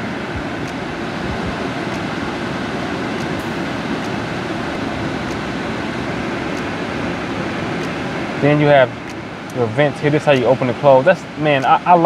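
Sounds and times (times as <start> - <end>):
car air conditioning blower: 0.0 - 12.0.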